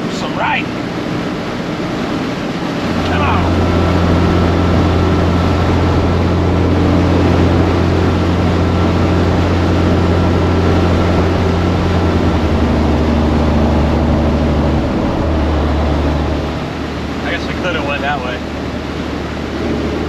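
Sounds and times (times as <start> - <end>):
faint steady whine: 0.0 - 20.0
truck engine drone: 0.0 - 20.0.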